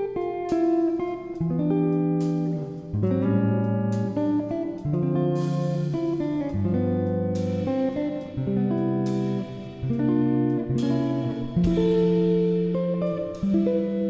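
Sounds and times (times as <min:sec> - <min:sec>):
guitar-led instrumental music: 0:00.0 - 0:14.0.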